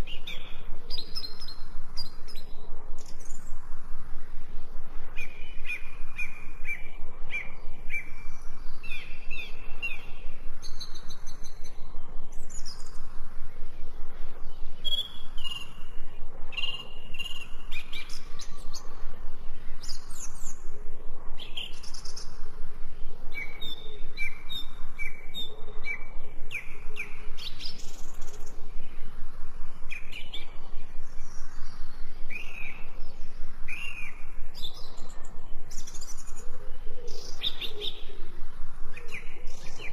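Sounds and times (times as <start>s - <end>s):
wild birds chirping and singing: 0.0s - 39.9s.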